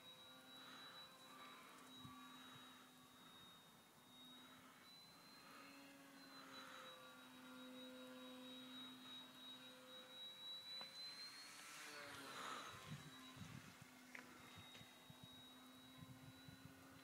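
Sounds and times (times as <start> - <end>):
model plane motor humming: 0.0 - 17.0
thin high whine: 0.0 - 17.0.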